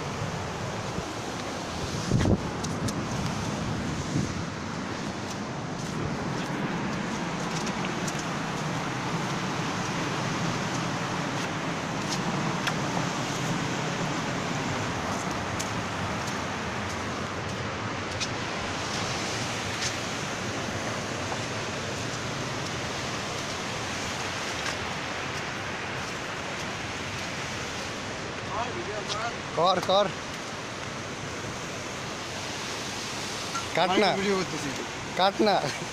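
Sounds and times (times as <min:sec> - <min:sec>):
river rushing roar: 0:00.0 - 0:35.9.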